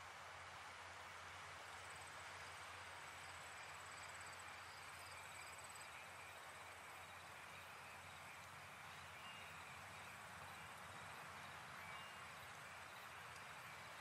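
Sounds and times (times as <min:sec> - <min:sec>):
night ambience hiss: 0:00.0 - 0:14.0.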